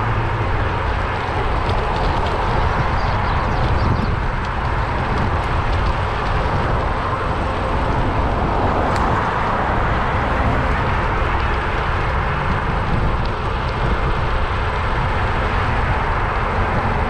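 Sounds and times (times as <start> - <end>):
street traffic: 0.0 - 17.0
wind buffeting microphone: 0.0 - 17.0.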